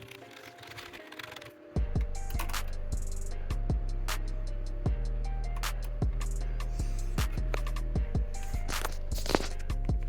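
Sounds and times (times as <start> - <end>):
electronic beat music: 1.8 - 10.0.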